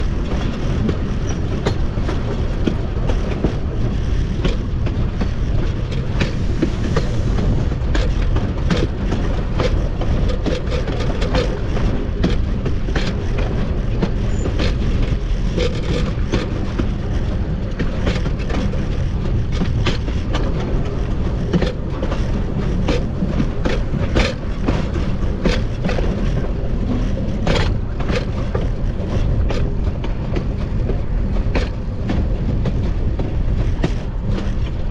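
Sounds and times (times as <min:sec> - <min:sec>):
locomotive wheels rumbling on rails: 0:00.0 - 0:34.9
wheels clacking over rail joints: 0:00.0 - 0:34.9.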